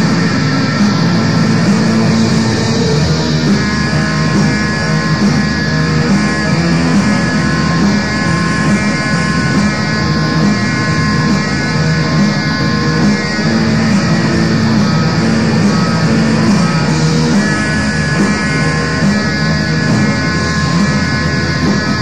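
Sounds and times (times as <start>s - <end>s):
distorted electric guitar metal: 0.0s - 22.0s.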